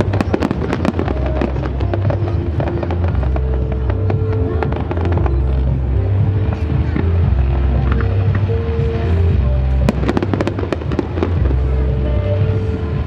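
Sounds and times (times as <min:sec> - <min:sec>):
fireworks bursting and crackling: 0:00.0 - 0:13.0
music with heavy bass: 0:00.0 - 0:13.0.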